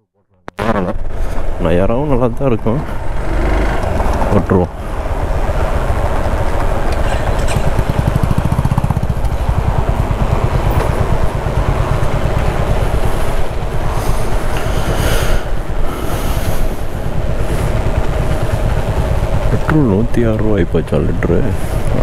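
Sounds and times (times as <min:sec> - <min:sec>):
motorcycle engine idling: 0:01.2 - 0:22.0.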